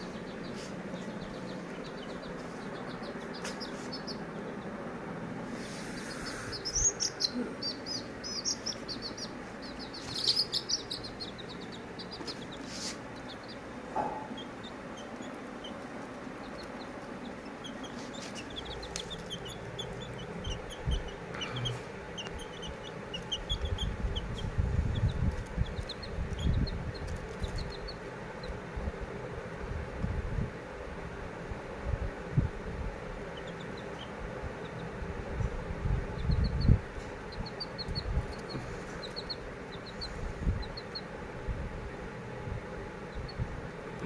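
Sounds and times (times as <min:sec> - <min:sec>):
small birds chirping: 0:00.0 - 0:30.7, 0:31.5 - 0:44.0.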